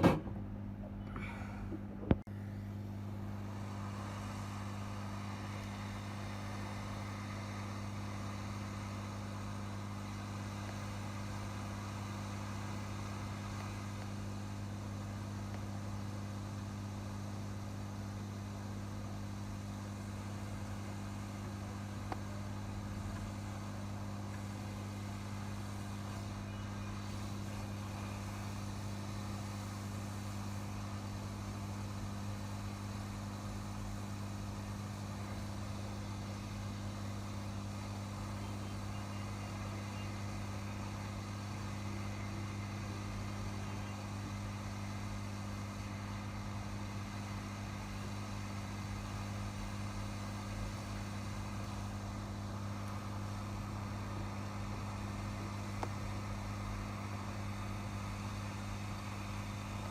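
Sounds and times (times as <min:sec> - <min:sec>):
low electrical hum: 0:00.0 - 0:59.9
steady hiss: 0:02.4 - 0:59.9.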